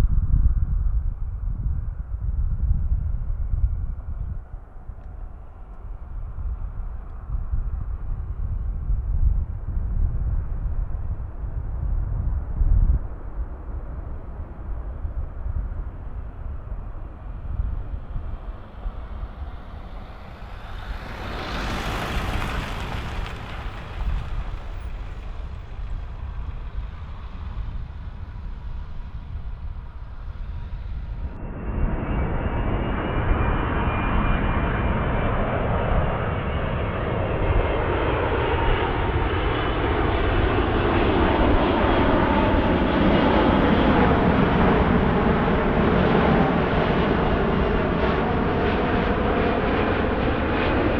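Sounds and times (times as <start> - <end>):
jet engine whine: 0.0 - 50.9
jet engines: 0.0 - 50.9
wind rumble on microphone: 0.0 - 50.9.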